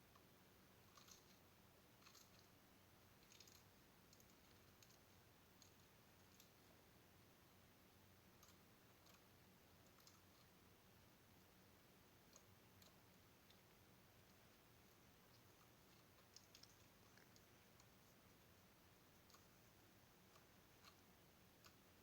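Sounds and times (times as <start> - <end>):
low hiss: 0.0 - 22.0.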